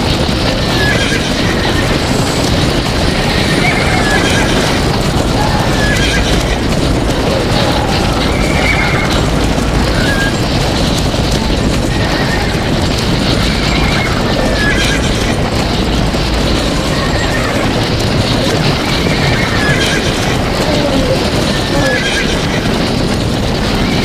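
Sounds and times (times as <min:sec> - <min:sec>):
galloping hooves rumble: 0:00.0 - 0:24.0
horses whinnying: 0:00.0 - 0:24.0.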